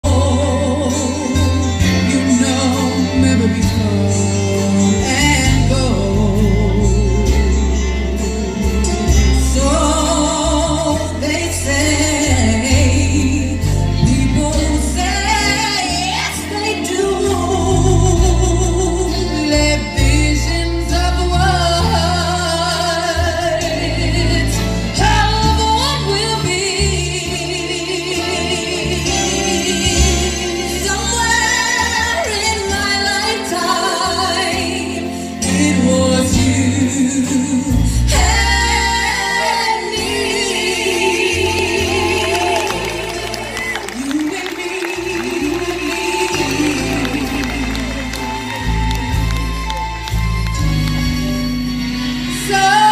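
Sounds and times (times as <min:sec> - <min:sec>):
person singing with vibrato: 0:00.0 - 0:49.8
sustained bass notes: 0:00.0 - 0:52.9.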